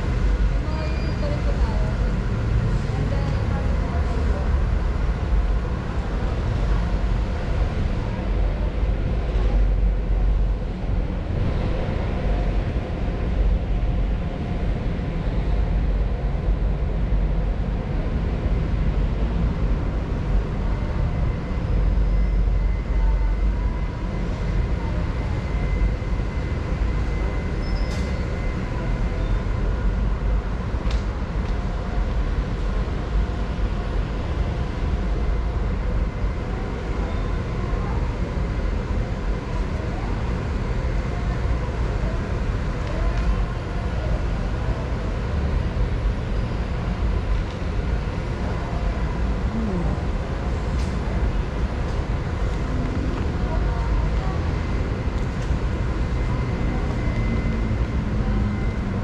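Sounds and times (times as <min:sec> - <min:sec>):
low rumble and hum: 0:00.0 - 0:59.0.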